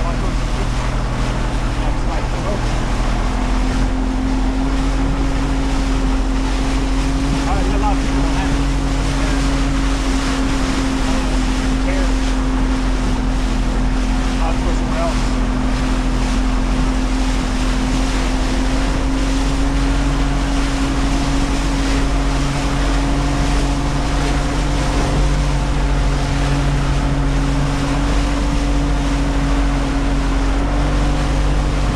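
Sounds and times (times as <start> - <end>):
motorboat engine running: 0.0 - 31.9
water rushing by hull: 0.0 - 31.9
wind buffeting microphone: 0.0 - 31.9.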